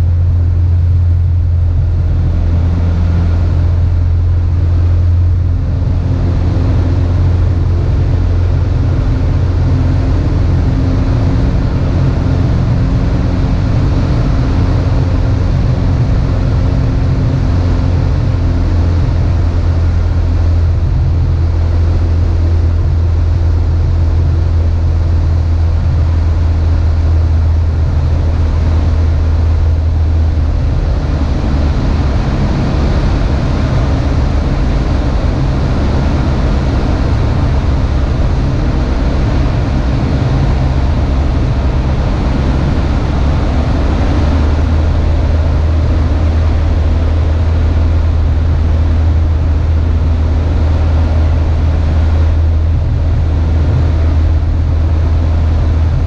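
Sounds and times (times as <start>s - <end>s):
propeller plane engine droning: 0.0s - 56.0s
wind rush: 0.0s - 56.0s.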